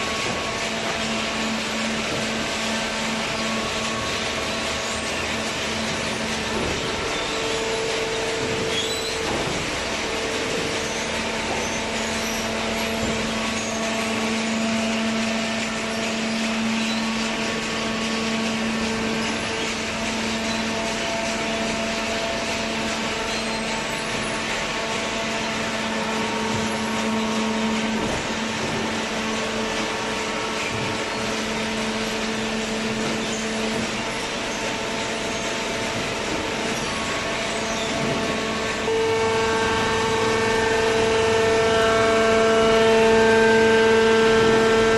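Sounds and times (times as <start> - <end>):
hydraulic baler motor humming: 0.0 - 44.9.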